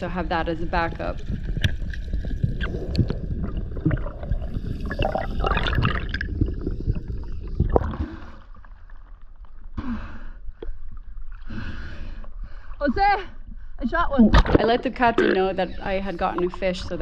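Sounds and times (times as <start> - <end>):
water sloshing and gurgling: 0.0 - 17.0.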